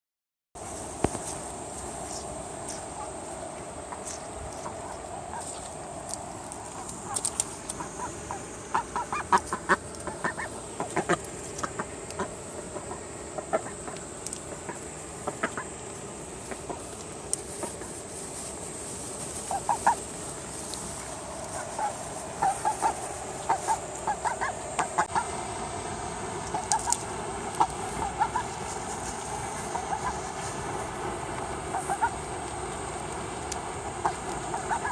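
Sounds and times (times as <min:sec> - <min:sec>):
rain hissing: 0:00.6 - 0:34.9
ducks clucking: 0:01.0 - 0:18.1, 0:19.1 - 0:25.4, 0:26.4 - 0:34.9.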